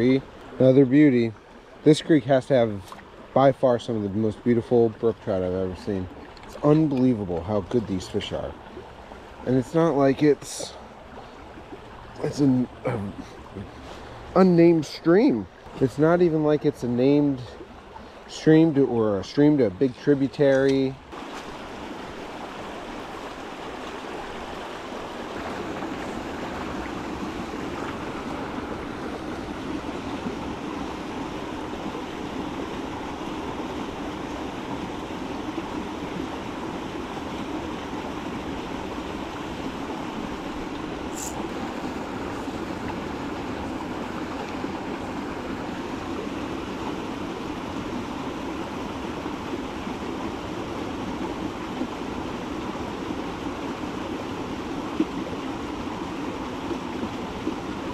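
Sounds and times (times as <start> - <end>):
stream rushing: 0.0 - 57.9.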